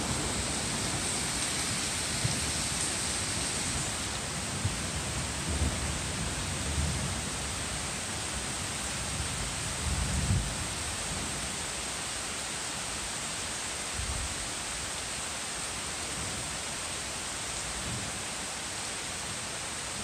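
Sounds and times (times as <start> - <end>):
heavy rain on trees and grass: 0.0 - 20.0.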